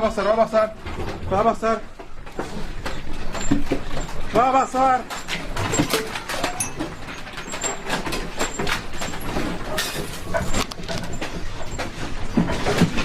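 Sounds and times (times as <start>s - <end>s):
objects rattling and clattering: 0.0s - 13.0s.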